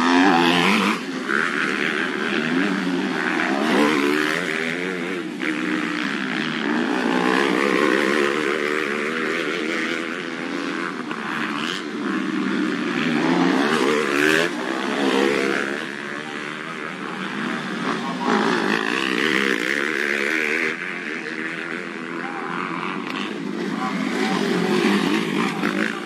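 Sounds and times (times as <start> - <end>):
motocross engines revving past: 0.0 - 26.0.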